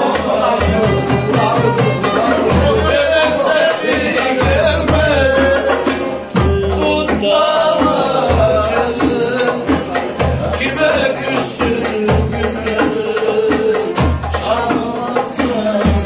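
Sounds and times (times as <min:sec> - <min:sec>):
wavering folk melody: 0:00.0 - 0:16.0.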